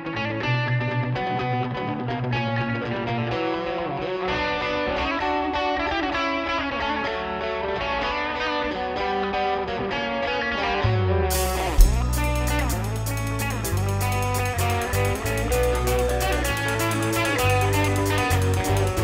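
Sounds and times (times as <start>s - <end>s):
bass: 0.0s - 19.0s
electric guitars with effects: 0.0s - 19.0s.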